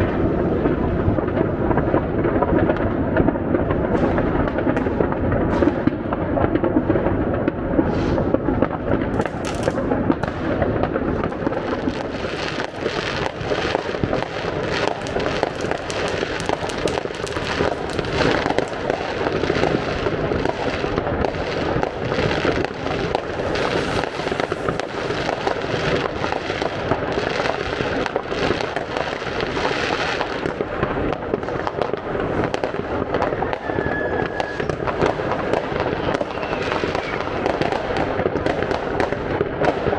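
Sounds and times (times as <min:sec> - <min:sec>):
fireworks and firecrackers barrage: 0:00.0 - 0:39.9.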